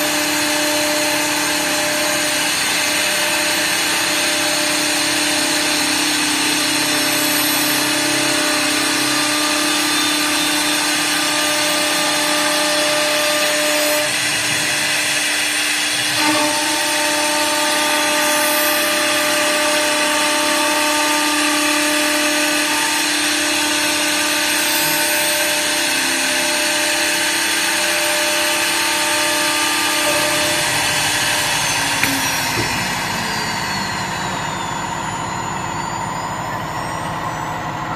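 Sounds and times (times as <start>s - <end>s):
hiss of wood being cut: 0.0s - 35.2s
lathe spindle whine: 0.0s - 37.9s.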